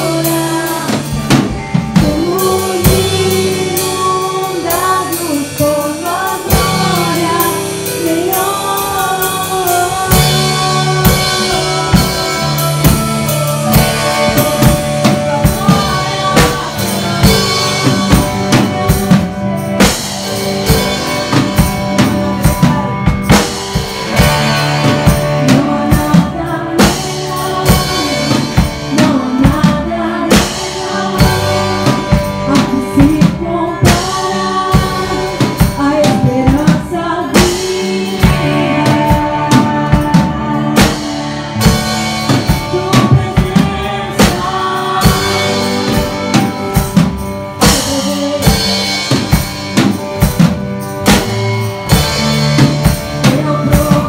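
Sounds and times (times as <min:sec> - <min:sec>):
women singing: 0:00.0 - 0:19.4, 0:24.1 - 0:47.0, 0:47.6 - 0:49.4, 0:53.1 - 0:54.0
drum kit beat: 0:00.0 - 0:54.0
guitars and keyboard: 0:00.0 - 0:54.0.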